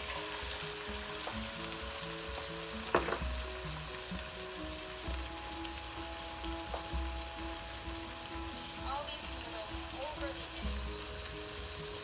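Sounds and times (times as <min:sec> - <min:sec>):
eggs and noodles sizzling in oil: 0:00.0 - 0:12.0
music playing: 0:00.0 - 0:12.0.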